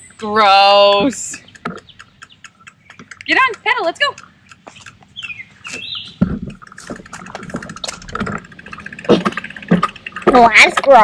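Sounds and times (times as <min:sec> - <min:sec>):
bicycle tyres rumbling: 0:00.7 - 0:11.0
clicks from bicycle drivetrain: 0:01.3 - 0:11.0.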